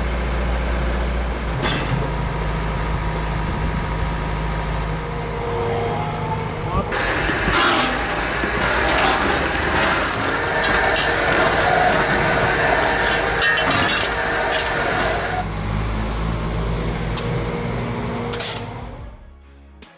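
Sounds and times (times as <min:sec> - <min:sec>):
heavy machine engine under load: 0:00.0 - 0:19.2.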